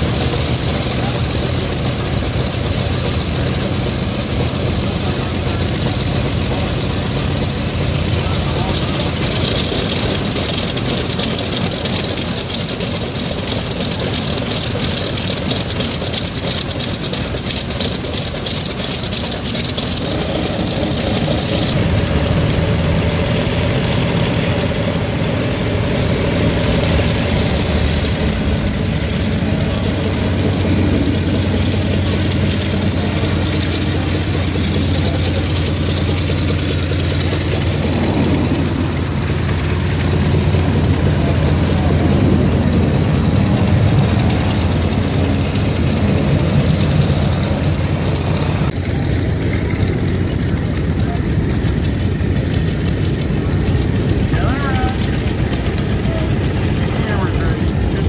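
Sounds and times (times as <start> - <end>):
piston engines idling: 0.0 - 58.0.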